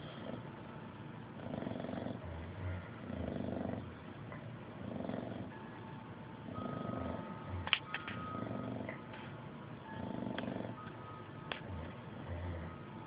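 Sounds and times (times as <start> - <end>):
dog snoring: 0.0 - 0.7, 1.3 - 5.8, 6.4 - 11.0, 11.6 - 13.0.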